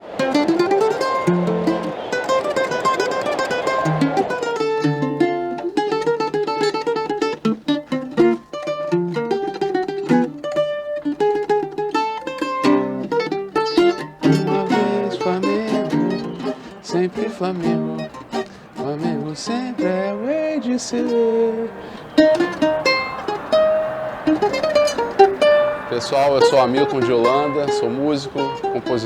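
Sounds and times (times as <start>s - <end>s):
mandolin playing: 0.0s - 29.0s.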